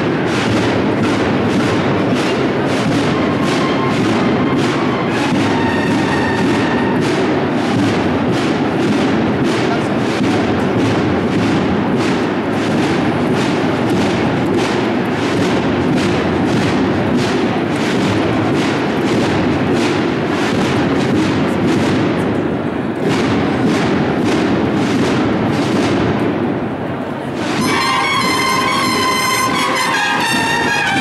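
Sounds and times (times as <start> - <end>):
snare drums playing march beat: 0.0 - 31.0.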